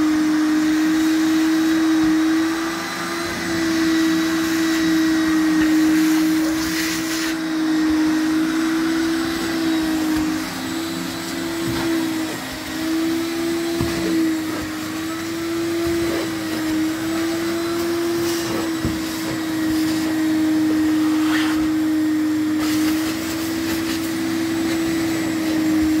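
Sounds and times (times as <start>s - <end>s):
floor scrubbing machine: 0.0s - 26.0s
wet-dry vacuum: 0.0s - 26.0s.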